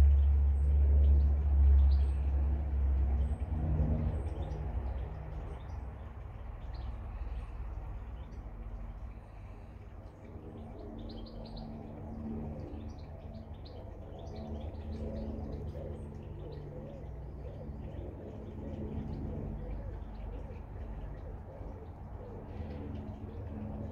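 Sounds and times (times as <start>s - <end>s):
low steady hum: 0.0s - 23.9s
birds chirping: 3.2s - 23.8s.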